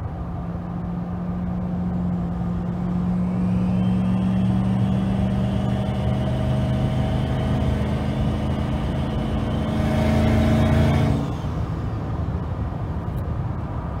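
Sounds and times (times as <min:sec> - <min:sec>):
engine from inside cab: 0:00.0 - 0:14.0.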